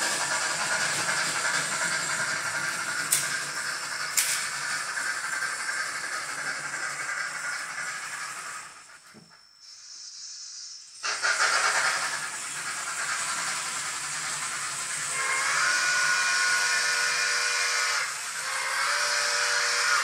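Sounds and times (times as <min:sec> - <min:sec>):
loud steam hiss: 0:00.0 - 0:20.0.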